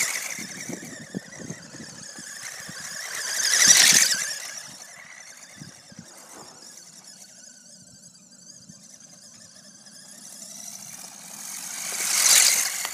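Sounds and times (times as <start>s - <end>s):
electric motor and gears whining: 0.0s - 12.9s.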